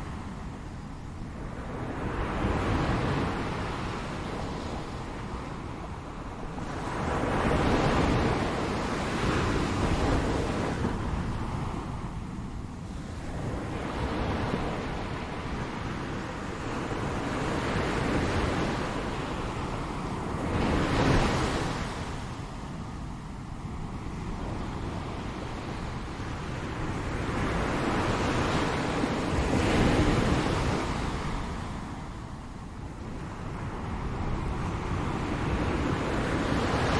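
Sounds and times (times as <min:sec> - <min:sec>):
ocean waves breaking on shore: 0:00.0 - 0:36.9.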